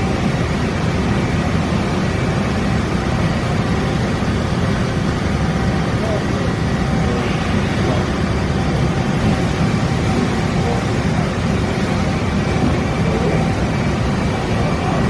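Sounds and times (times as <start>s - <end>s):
faint steady whine: 0.0s - 15.0s
loud machine drone: 0.0s - 15.0s.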